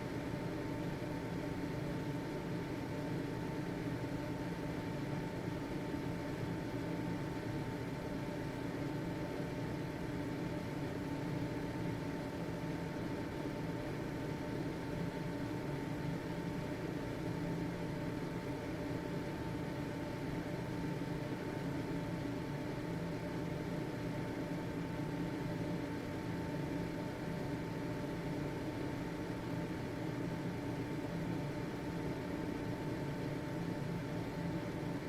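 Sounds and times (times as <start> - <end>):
ventilation fan running: 0.0 - 35.0.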